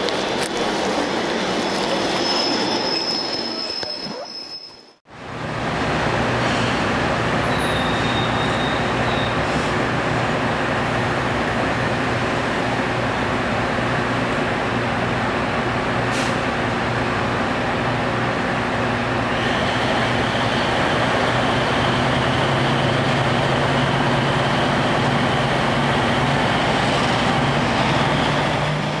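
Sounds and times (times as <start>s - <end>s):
diesel railcar engine running: 0.0s - 4.1s, 5.1s - 29.0s.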